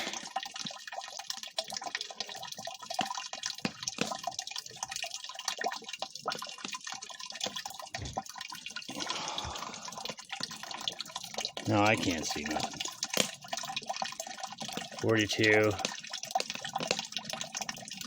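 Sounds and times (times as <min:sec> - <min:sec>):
water sputtering and gurgling in coil: 0:00.0 - 0:18.0.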